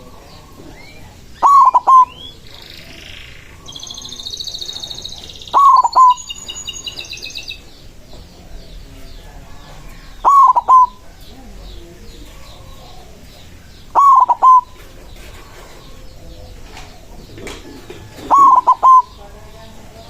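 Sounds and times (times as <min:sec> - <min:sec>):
dove cooing: 0:00.0 - 0:07.0, 0:09.6 - 0:20.0
small birds trilling and chirping: 0:00.0 - 0:20.0.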